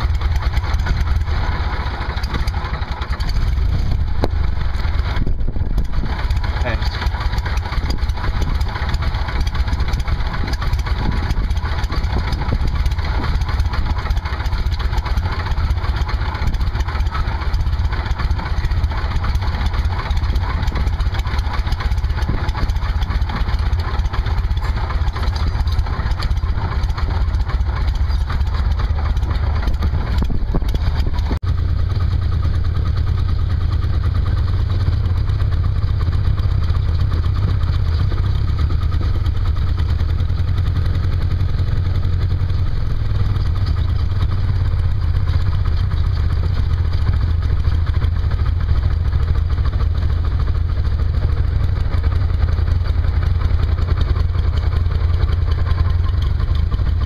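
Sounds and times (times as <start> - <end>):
aircraft engine running steadily: 0.0 - 57.0.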